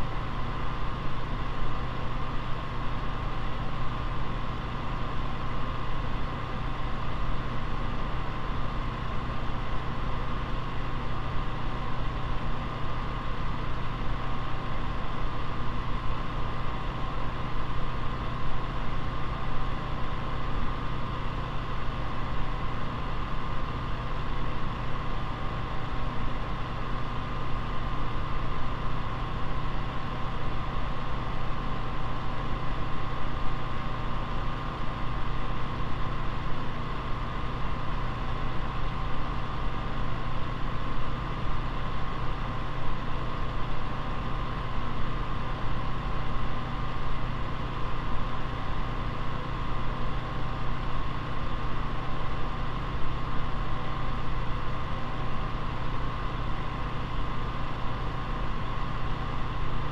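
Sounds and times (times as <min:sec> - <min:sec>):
electric fan running: 0:00.0 - 0:59.9.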